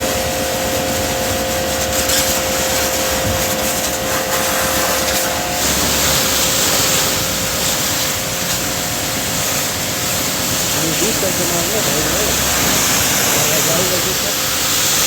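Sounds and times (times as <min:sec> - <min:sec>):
mechanical hiss: 0:01.8 - 0:15.0.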